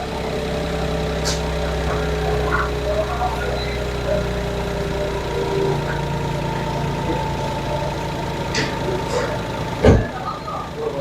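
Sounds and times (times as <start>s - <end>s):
car engine idling: 0.0s - 11.0s
faint steady whine: 0.0s - 11.0s.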